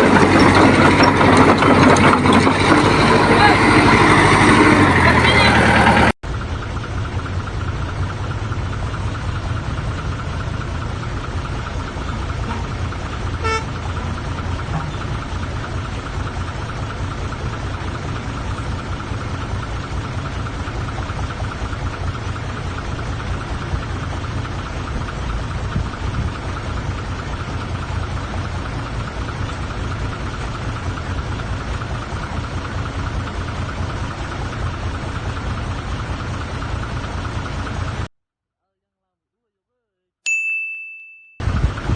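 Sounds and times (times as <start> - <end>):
bulldozer diesel engine running: 0.0 - 38.1, 41.4 - 41.9.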